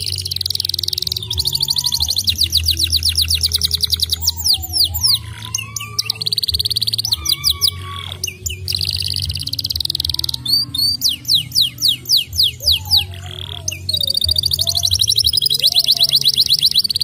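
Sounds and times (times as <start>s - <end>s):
canary singing trills: 0.0s - 17.0s.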